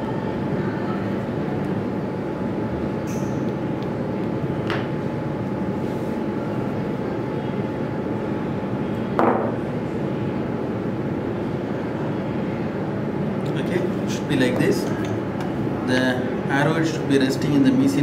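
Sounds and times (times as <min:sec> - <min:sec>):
mechanical room hum: 0:00.0 - 0:18.0.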